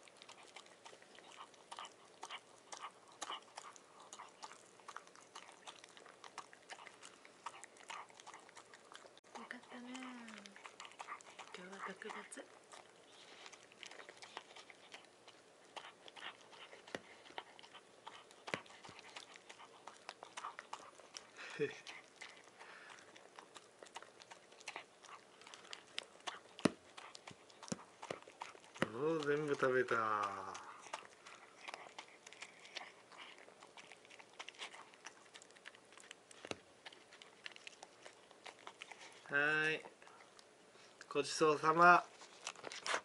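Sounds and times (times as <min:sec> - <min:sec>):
dog chewing clicks and smacks: 0:00.0 - 0:43.0.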